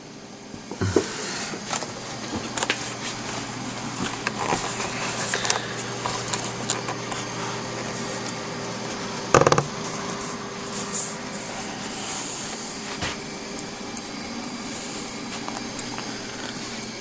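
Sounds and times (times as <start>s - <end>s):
stepper motors humming: 0.2s - 17.0s.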